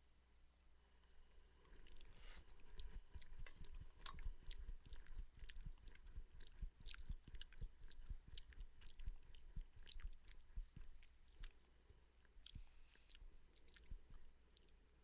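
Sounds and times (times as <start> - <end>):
man chewing food: 1.0 - 14.9.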